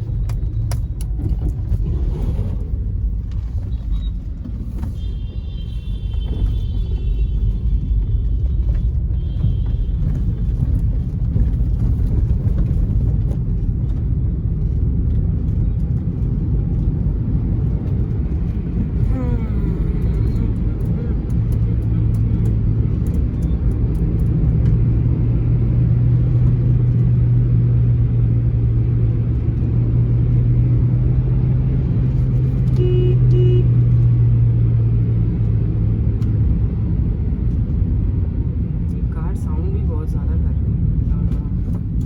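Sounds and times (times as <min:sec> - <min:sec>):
car engine rumble and road noise: 0:00.0 - 0:42.0.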